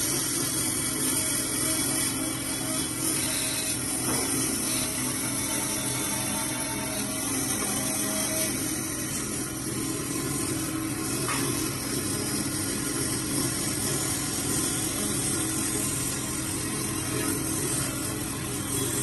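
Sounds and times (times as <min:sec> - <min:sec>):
machine motor whirring: 0:00.0 - 0:19.0.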